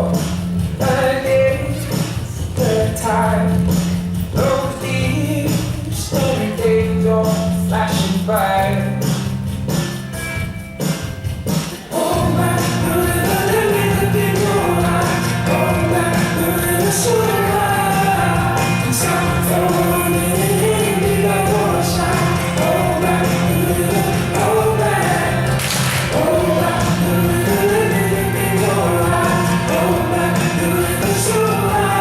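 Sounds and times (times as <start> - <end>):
pop-rock song with choir-like vocals: 0.0 - 9.2, 11.6 - 32.0.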